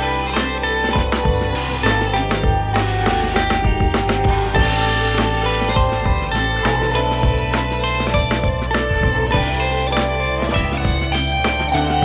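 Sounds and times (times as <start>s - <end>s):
instrumental band music: 0.0s - 12.0s.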